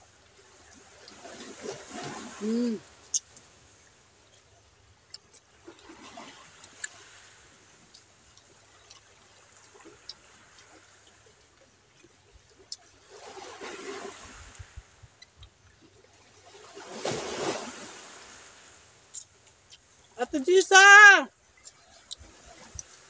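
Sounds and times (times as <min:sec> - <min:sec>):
small waves washing on rocks: 0:00.3 - 0:04.3, 0:05.2 - 0:15.1, 0:15.8 - 0:23.0.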